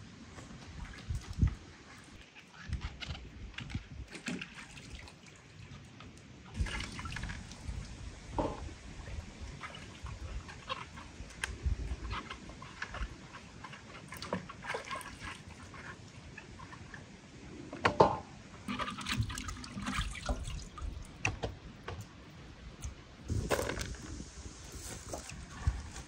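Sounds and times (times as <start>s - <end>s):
water sloshing and dripping: 0.2s - 26.0s.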